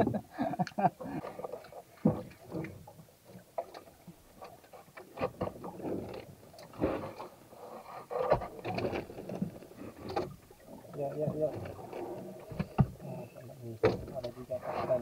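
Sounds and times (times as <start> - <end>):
knocks taps and scrapes on boat: 1.0 - 15.0.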